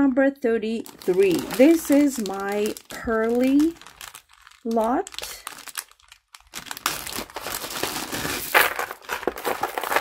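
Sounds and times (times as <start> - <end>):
plastic bag crinkling: 0.7 - 10.0.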